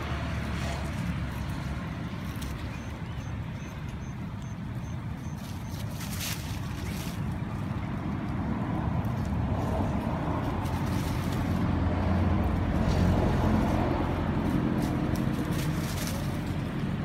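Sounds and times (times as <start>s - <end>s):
low vehicle engine hum: 0.0s - 17.0s.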